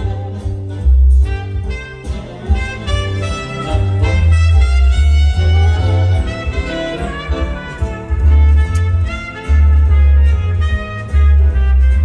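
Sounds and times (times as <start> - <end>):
big band swing over loudspeakers: 0.0 - 12.0.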